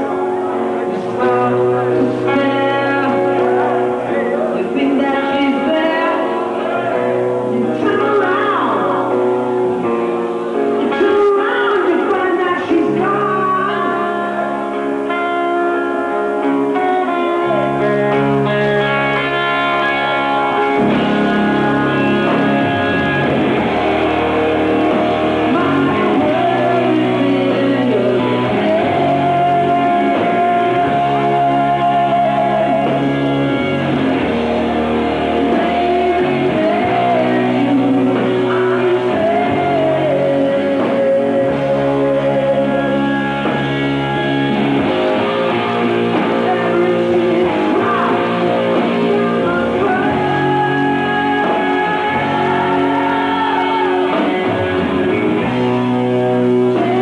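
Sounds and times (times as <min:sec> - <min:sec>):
man singing lead vocal: 0:00.0 - 0:23.8, 0:25.0 - 0:57.0
hard rock ballad: 0:00.0 - 0:57.0.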